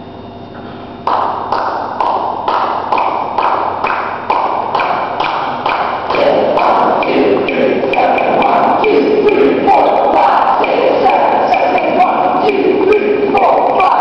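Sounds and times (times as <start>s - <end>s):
sharp taps ringing in hall: 0.6s - 14.0s.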